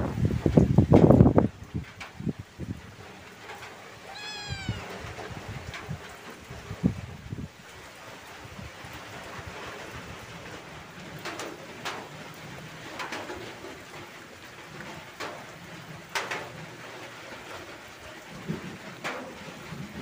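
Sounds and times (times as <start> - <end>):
rain patter: 0.0 - 20.0.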